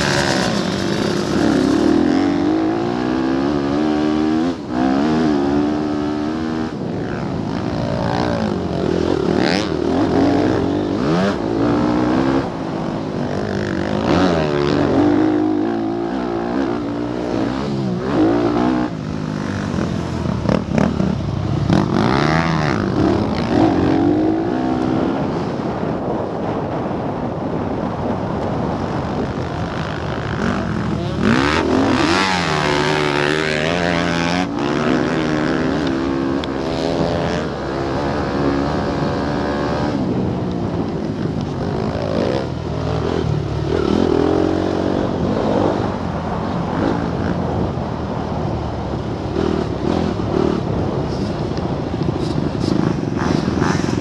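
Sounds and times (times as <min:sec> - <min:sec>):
motocross bike engine revving: 0:00.0 - 0:25.7, 0:28.6 - 0:47.9, 0:48.5 - 0:54.0
second motocross bike engine: 0:00.0 - 0:54.0.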